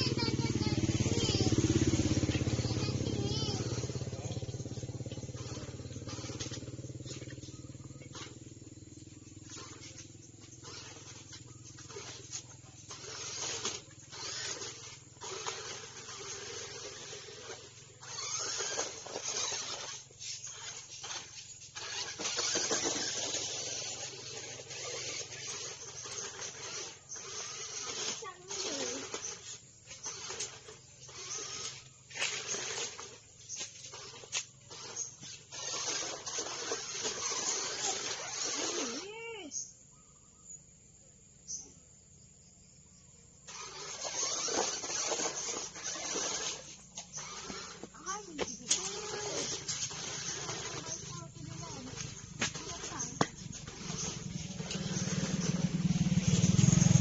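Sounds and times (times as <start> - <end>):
tyres scrabbling over dirt and leaves: 0.0 - 39.3, 43.5 - 57.0
toy truck motor whir: 0.0 - 40.5, 42.9 - 57.0.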